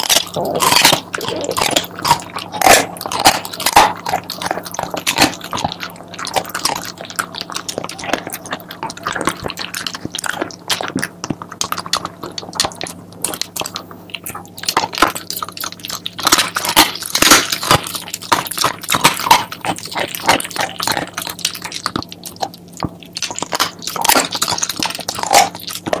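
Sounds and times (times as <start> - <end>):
dog chewing bones crunching: 0.0 - 26.0.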